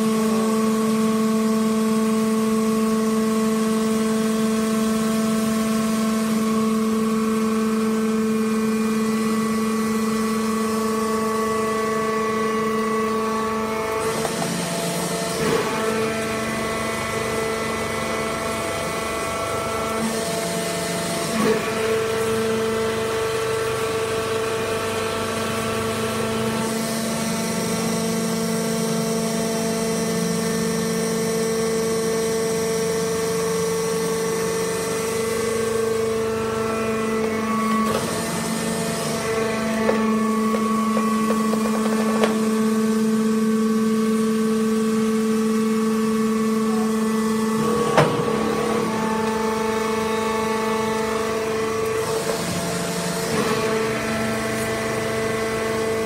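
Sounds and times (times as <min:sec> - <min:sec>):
hydraulic baler humming and whining: 0:00.0 - 0:56.0.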